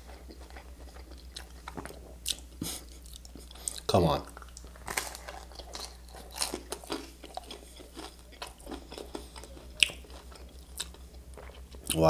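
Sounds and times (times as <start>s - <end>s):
crunchy toast chewing: 0.0s - 12.0s.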